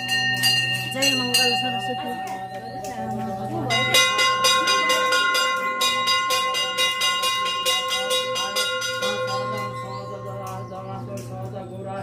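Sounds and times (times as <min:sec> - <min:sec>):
brass temple bells ringing: 0:00.0 - 0:12.0.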